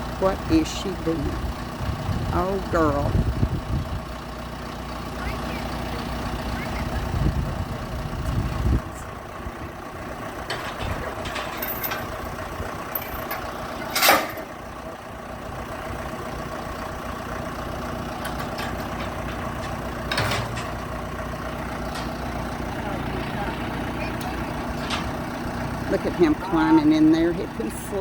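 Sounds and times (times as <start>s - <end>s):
diesel engine idling: 0.0s - 28.0s
loud bursts of engine noise: 0.0s - 28.0s.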